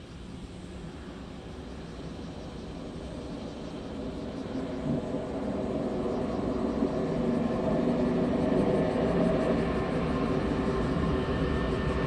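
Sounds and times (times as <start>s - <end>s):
deep jet engine rumble: 0.0s - 12.0s.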